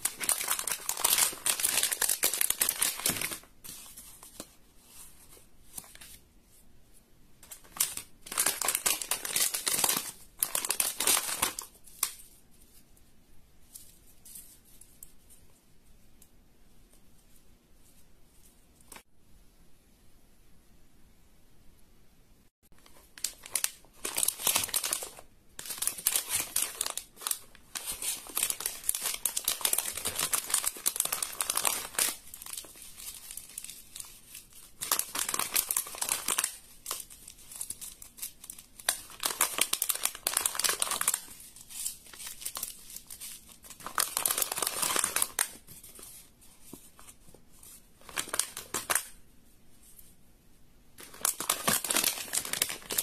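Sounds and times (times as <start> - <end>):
crinkling handling noise: 0.0 - 6.7, 7.4 - 16.3, 22.7 - 50.2, 51.0 - 53.0.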